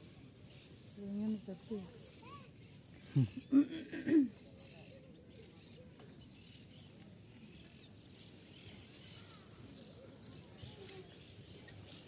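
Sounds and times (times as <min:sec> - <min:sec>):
faint bird calls: 0:00.4 - 0:12.0.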